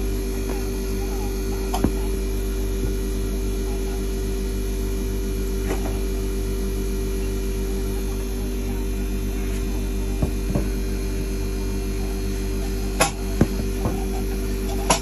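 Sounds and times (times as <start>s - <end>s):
ice machine humming: 0.0s - 15.0s.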